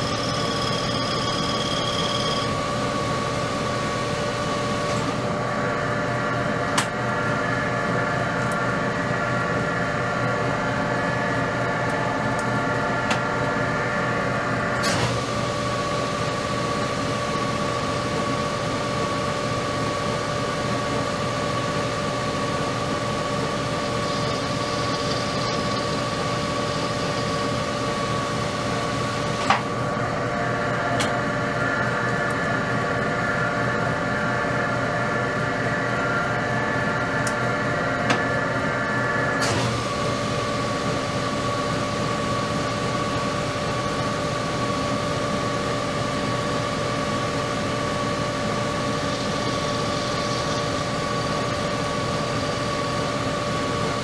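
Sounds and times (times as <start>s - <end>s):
lathe gear whine: 0.0s - 54.0s.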